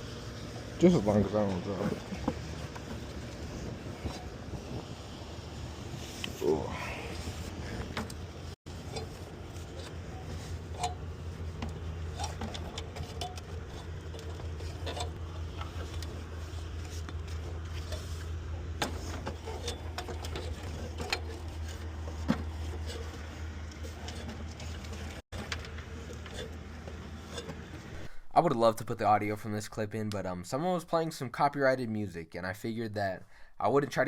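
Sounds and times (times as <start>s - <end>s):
low machine hum: 0.0s - 28.5s.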